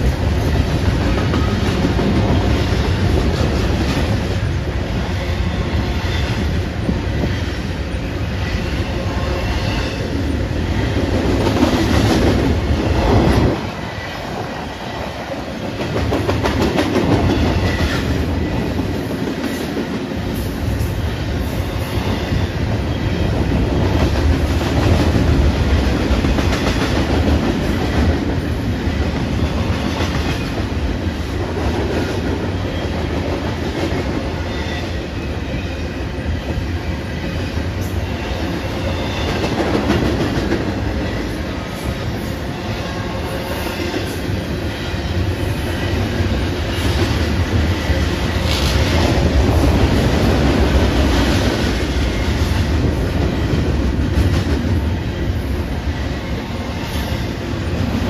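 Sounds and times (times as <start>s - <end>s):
wheels clickety-clack on track: 0.0s - 4.7s, 5.8s - 35.8s, 36.5s - 42.3s, 42.9s - 58.0s
freight train wheels rumbling: 0.0s - 58.0s.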